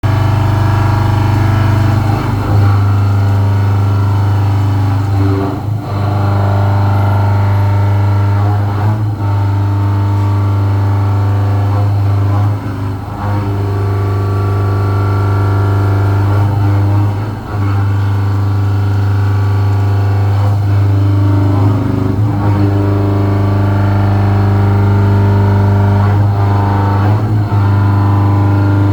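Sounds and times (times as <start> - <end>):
milling machine motor hum: 0.0 - 28.9.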